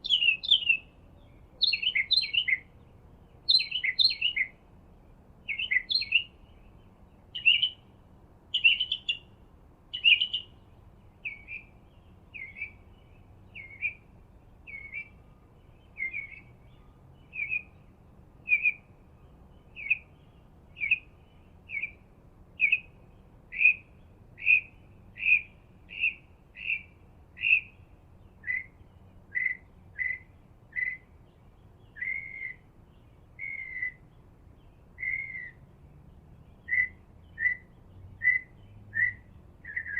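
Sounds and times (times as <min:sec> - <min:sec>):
bird chirping: 0:00.0 - 0:04.6, 0:05.4 - 0:39.9.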